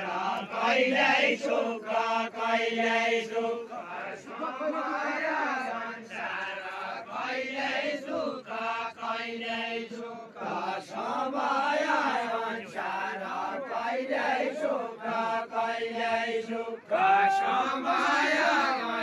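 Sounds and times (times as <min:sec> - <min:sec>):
group of men singing: 0:00.0 - 0:19.0.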